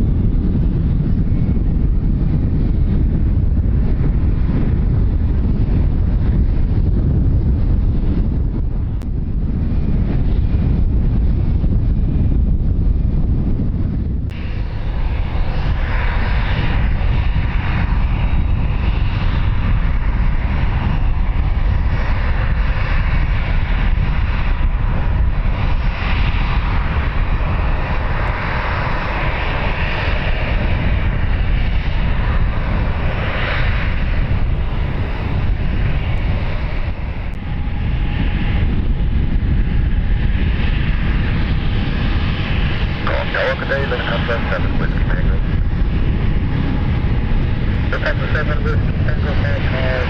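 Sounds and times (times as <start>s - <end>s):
aircraft engines roaring: 0.0s - 50.0s.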